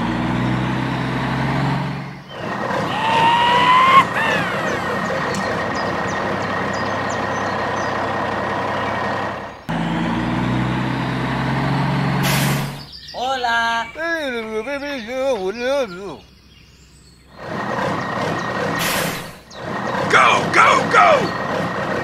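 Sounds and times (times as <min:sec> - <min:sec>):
heavy vehicle engine running: 0:00.0 - 0:13.1, 0:17.1 - 0:22.0.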